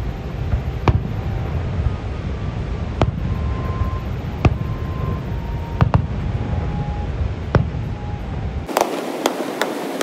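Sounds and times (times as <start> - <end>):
falling water roar: 0.0 - 10.0
fireworks bangs: 0.0 - 10.0
wind: 0.0 - 10.0.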